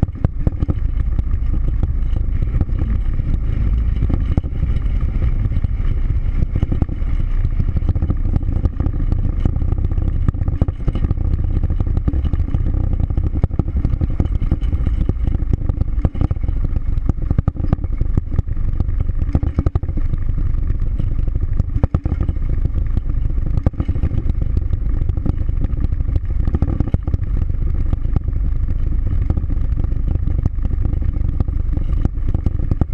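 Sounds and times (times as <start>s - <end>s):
engine drone: 0.0s - 32.9s
light rattles and clicks: 0.0s - 32.9s
road and wind noise: 0.0s - 32.9s.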